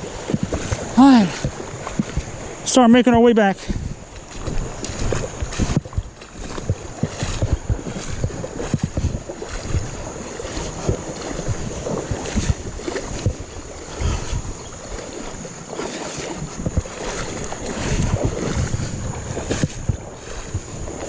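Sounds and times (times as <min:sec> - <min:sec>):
water sloshing around legs: 0:00.0 - 0:21.0
wind buffeting microphone: 0:00.0 - 0:21.0.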